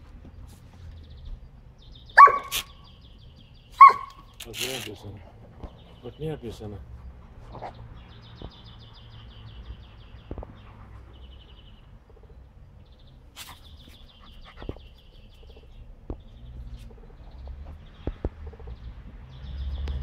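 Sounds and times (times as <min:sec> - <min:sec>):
small birds trilling: 0:00.1 - 0:20.0.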